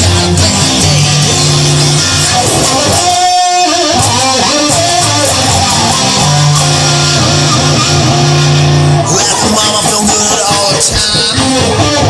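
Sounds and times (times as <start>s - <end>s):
blues-rock guitars: 0.0s - 12.0s
lead guitar bending pitch: 0.0s - 12.0s
low bass notes: 0.0s - 12.0s.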